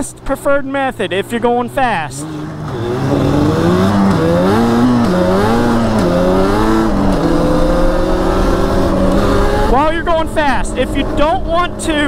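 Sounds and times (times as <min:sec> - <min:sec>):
quad engine shifting through gears: 0:00.0 - 0:12.0.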